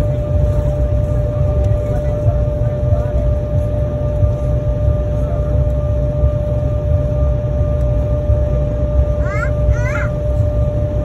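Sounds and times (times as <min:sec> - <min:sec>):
airliner cabin rumble: 0:00.0 - 0:11.0
mid-pitched hum: 0:00.0 - 0:11.0.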